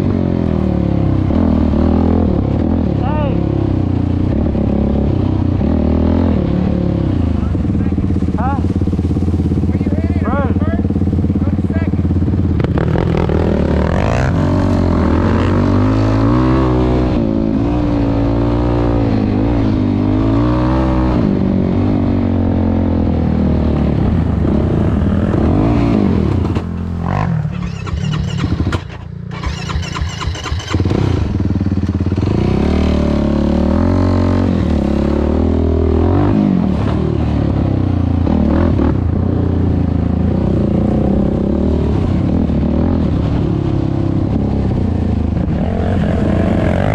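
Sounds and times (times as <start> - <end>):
quad bike engine revving: 0.0 - 46.9.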